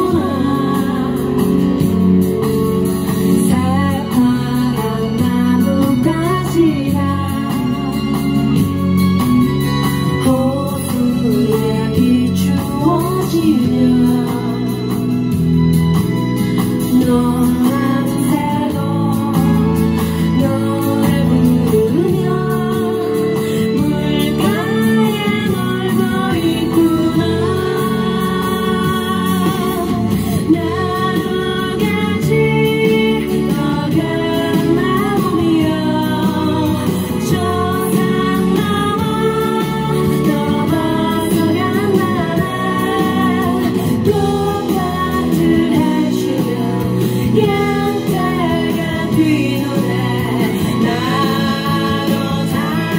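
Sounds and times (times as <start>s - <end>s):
instrumental accompaniment: 0.0s - 52.9s
woman singing into microphone: 0.0s - 52.9s.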